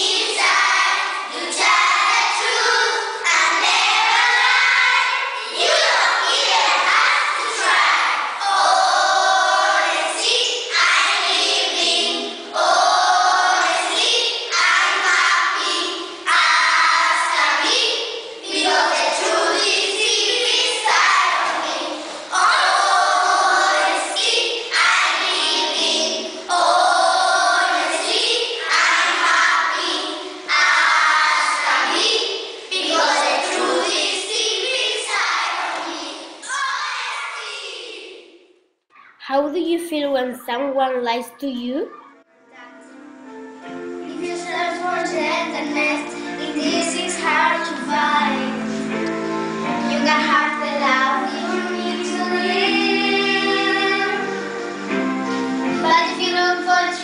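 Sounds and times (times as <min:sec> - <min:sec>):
children singing in unison: 0:00.0 - 0:38.4, 0:44.1 - 0:57.0.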